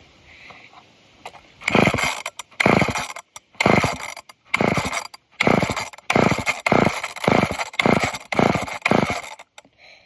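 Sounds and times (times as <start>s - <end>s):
chainsaw recoil starter cord whirring: 1.6s - 9.6s.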